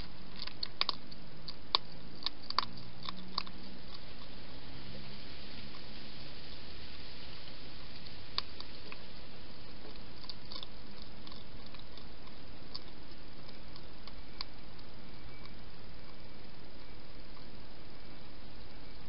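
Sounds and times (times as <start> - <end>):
background hiss: 0.0 - 19.0
hedgehog chewing crunches: 0.0 - 19.0.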